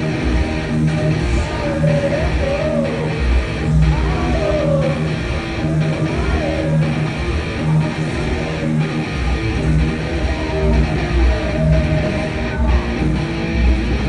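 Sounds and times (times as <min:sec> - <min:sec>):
distorted electric guitar riff: 0:00.0 - 0:14.0
guitar notes bending: 0:00.0 - 0:14.0
heavy metal band playing live: 0:00.0 - 0:14.0.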